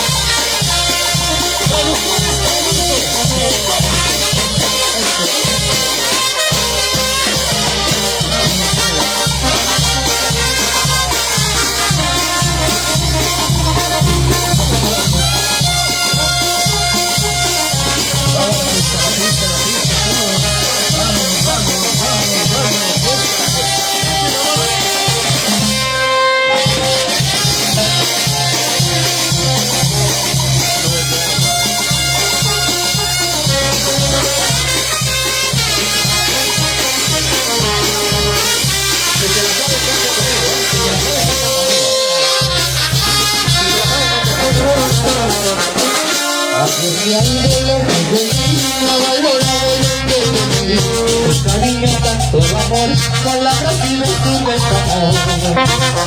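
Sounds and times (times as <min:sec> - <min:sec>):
brass band playing dance music: 0:00.0 - 0:56.0.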